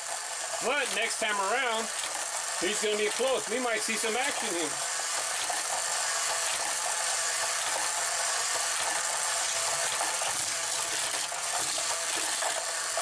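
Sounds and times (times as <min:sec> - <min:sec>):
mechanical whirring and rattling: 0:00.0 - 0:13.0
toy cars clicking on plastic track: 0:00.0 - 0:13.0.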